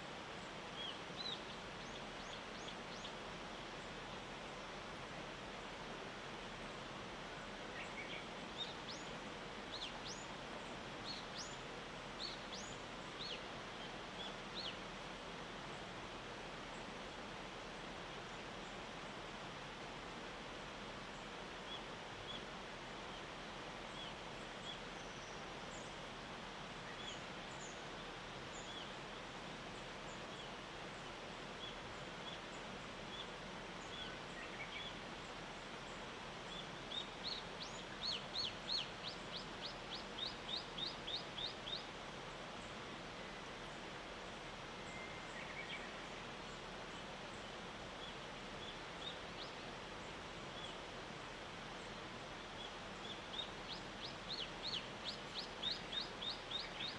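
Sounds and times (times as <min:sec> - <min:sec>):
background hiss: 0:00.0 - 0:56.9
songbirds chirping: 0:00.0 - 0:56.9.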